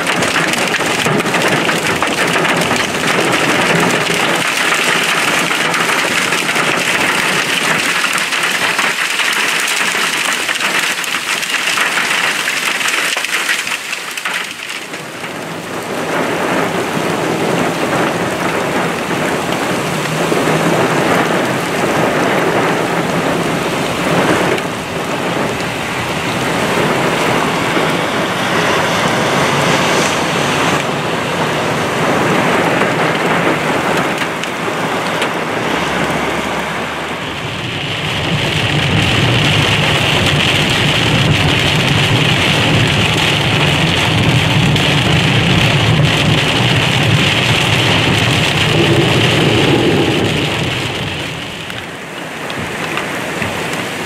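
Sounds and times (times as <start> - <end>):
heavy rain pouring: 0.0 - 54.0
rain drumming on a car: 0.0 - 54.0.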